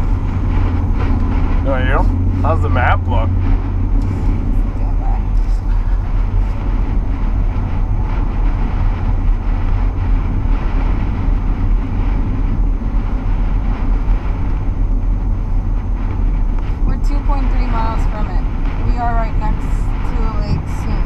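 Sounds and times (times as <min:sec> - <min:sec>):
blizzard winds: 0:00.0 - 0:21.0
vehicle driving rumble: 0:00.0 - 0:21.0.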